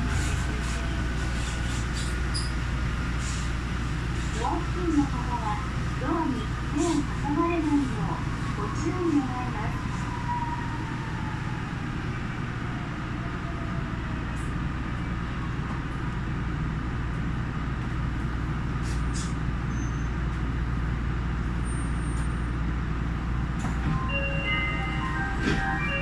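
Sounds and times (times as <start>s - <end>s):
monorail car rumbling on track: 0.0s - 26.0s.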